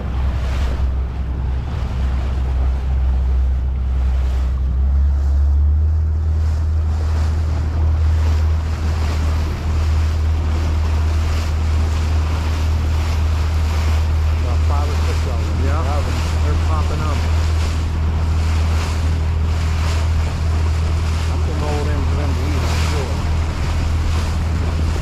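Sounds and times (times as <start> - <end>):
motorboat engine drone: 0.0 - 25.0
water rushing along hull: 0.0 - 25.0
wind buffeting microphone: 0.0 - 25.0.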